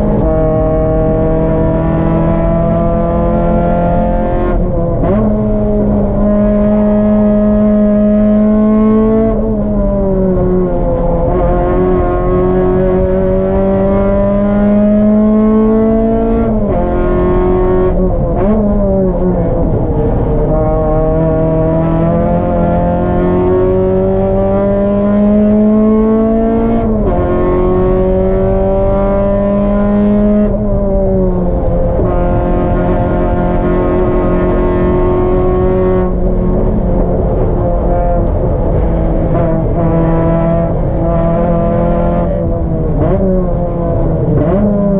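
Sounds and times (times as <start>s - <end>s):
race car engine running hard: 0.0s - 44.9s.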